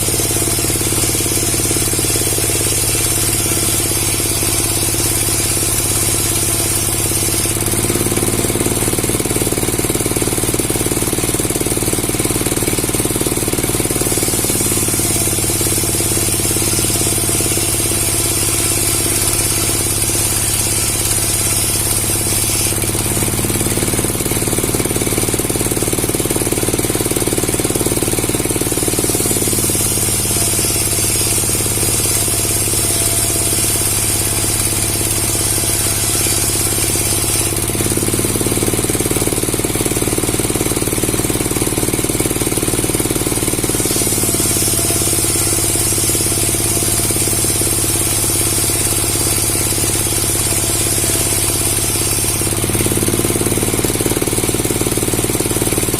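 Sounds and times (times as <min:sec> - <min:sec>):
motor-driven machine running: 0:00.0 - 0:55.9.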